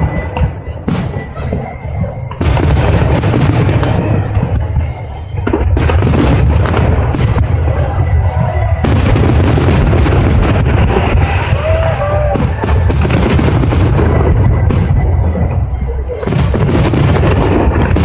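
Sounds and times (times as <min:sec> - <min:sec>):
fireworks booming and banging: 0:00.0 - 0:18.0.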